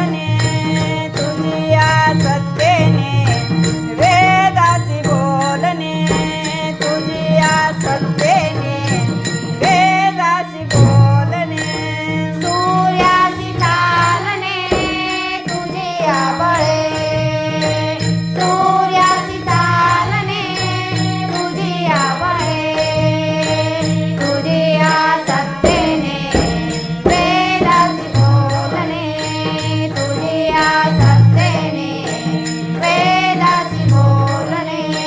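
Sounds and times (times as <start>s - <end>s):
jingling percussion: 0.0s - 35.0s.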